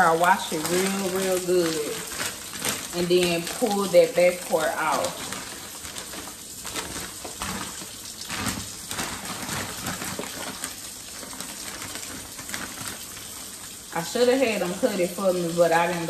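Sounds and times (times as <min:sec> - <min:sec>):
plastic bag and paper rustling: 0:00.0 - 0:16.0.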